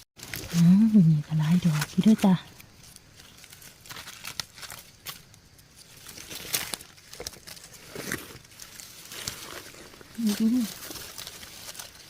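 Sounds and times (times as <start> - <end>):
leaf litter and twigs rustling: 0.2 - 12.0.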